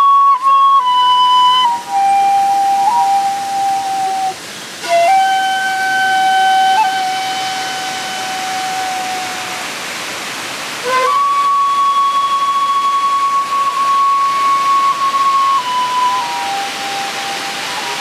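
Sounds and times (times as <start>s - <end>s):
bamboo flute notes: 0.0s - 10.0s, 10.7s - 18.0s
falling water rushing: 0.0s - 18.0s.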